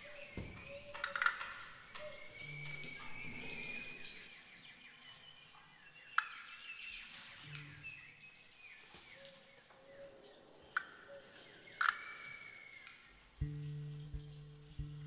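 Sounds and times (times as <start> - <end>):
birdsong chirps and whistled trills: 0.0 - 15.0.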